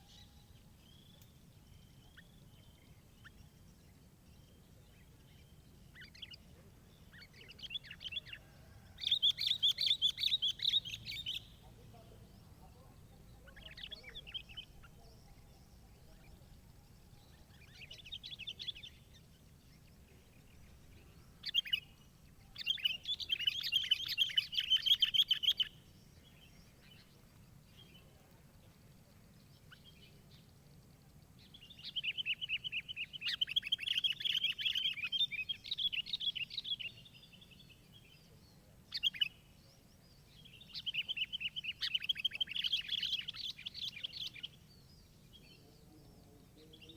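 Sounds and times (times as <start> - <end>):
songbird chattering song: 0.0 - 46.9.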